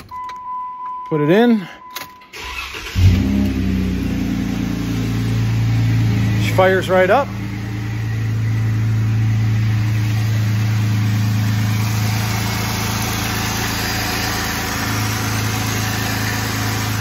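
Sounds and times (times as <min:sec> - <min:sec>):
car engine idling: 0:02.3 - 0:17.0.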